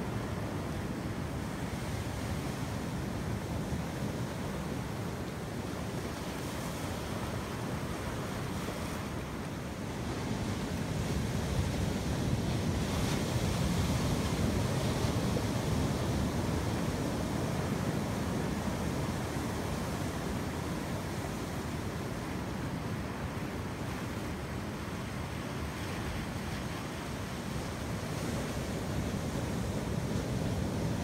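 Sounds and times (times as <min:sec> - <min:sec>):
ocean surf washing onto beach: 0:00.0 - 0:31.0.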